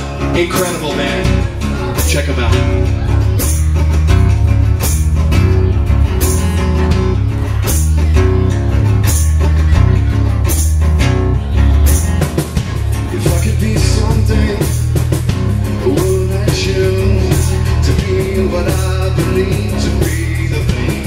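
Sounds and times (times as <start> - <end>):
heavy bass line: 0.0 - 21.0
live rock band playing: 0.0 - 21.0.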